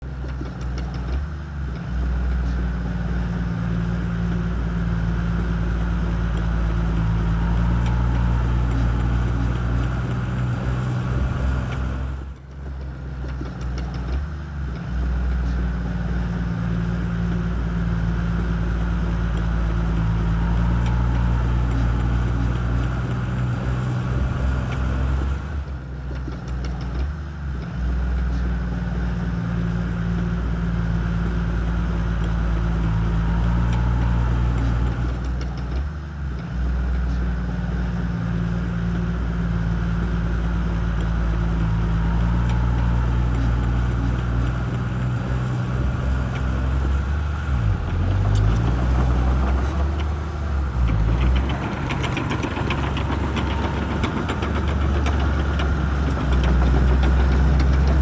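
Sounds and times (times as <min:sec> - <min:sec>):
bulldozer diesel engine droning: 0:00.0 - 0:58.0.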